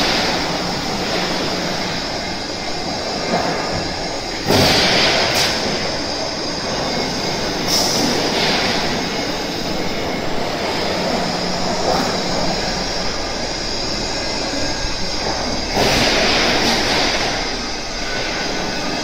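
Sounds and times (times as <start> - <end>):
roll forming machine running: 0.0 - 19.0.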